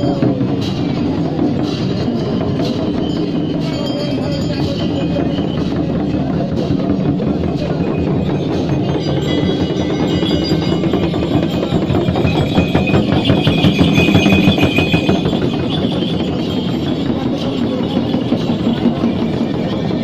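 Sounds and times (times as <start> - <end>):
hand drums beating quick rhythm: 0.0 - 20.0
ringing metal: 0.0 - 20.0.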